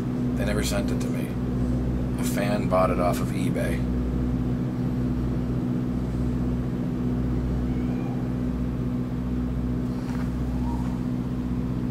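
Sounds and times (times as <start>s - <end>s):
vehicle engine rumble inside cabin: 0.0s - 11.9s.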